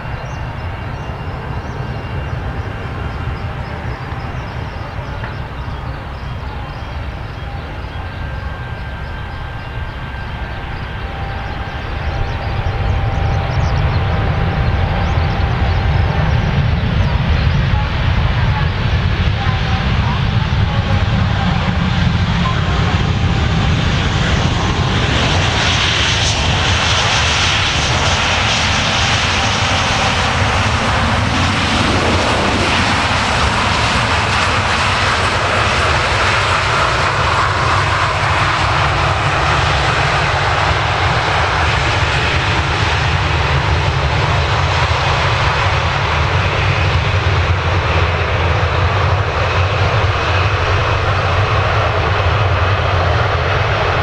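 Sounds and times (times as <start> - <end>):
jet engines in reverse thrust: 0.0 - 54.0.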